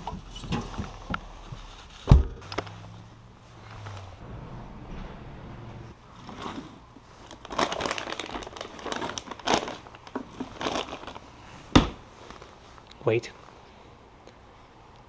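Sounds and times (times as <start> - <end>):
crinkling and rustling: 0.0 - 5.2, 5.8 - 13.5.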